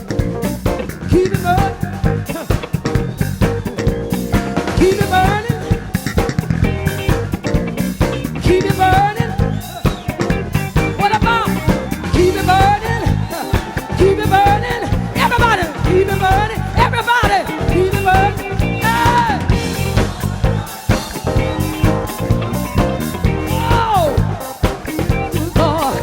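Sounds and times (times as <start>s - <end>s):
bass guitar: 0.0s - 26.0s
drum kit: 0.0s - 26.0s
guitar playing a groove: 0.0s - 26.0s.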